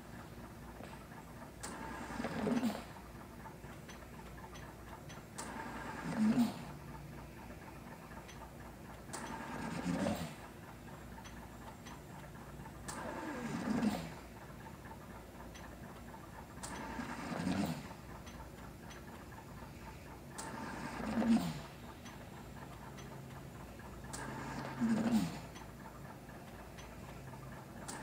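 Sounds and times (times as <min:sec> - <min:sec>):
ventilator click: 0:00.1 - 0:06.1, 0:07.5 - 0:28.0.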